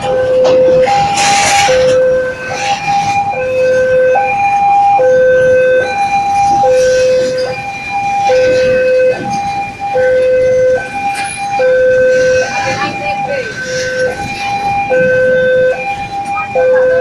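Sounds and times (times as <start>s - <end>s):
two-tone electronic warning siren: 0.0s - 17.0s.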